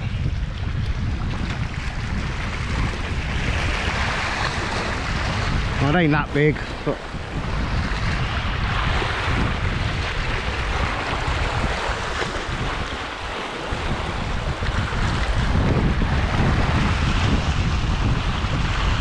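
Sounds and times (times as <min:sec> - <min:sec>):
sea waves on shore: 0:00.0 - 0:19.0
wind buffeting microphone: 0:00.0 - 0:19.0.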